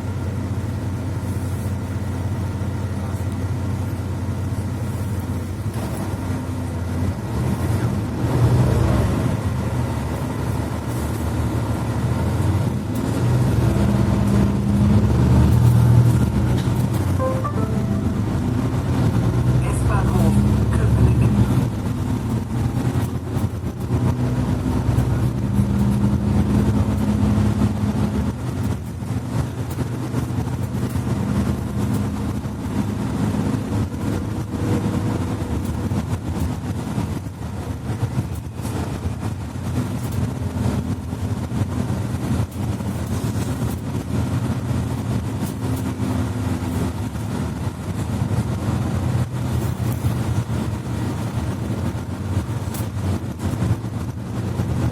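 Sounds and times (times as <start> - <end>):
bus engine humming: 0.0 - 54.9.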